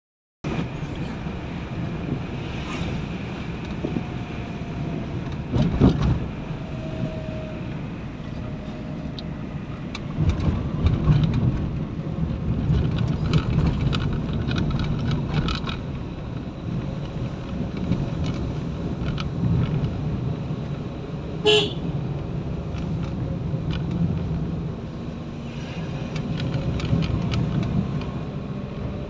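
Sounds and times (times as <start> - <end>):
engine and tyre rumble: 0.4 - 29.0.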